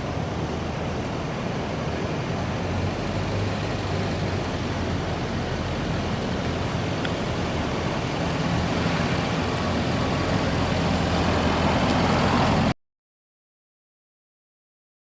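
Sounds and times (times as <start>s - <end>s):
car engine running: 0.0s - 12.7s.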